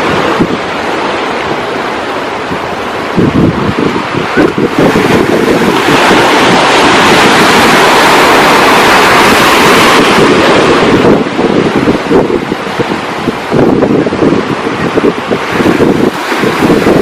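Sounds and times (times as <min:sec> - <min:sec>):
ocean waves breaking: 0:00.0 - 0:17.0
wind buffeting microphone: 0:00.0 - 0:17.0.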